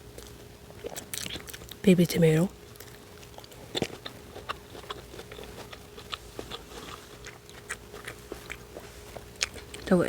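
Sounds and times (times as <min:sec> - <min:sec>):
tomato chewing mouth clicks: 0:00.1 - 0:01.8, 0:02.7 - 0:09.9.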